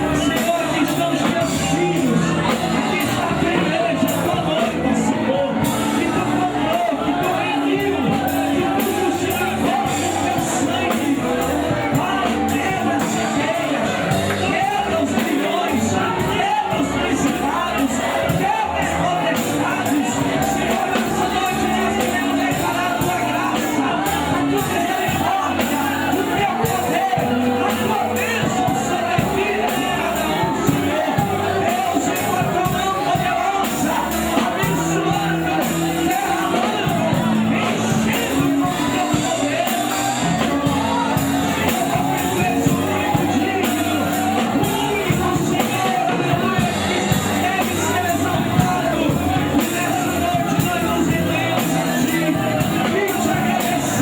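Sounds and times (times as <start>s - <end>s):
drum kit steady beat: 0.0s - 54.0s
live band music: 0.0s - 54.0s
people singing: 0.0s - 54.0s.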